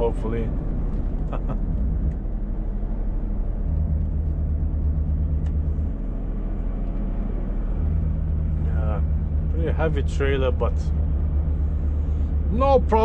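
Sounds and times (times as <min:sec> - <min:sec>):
truck engine hum from inside cab: 0:00.0 - 0:13.0.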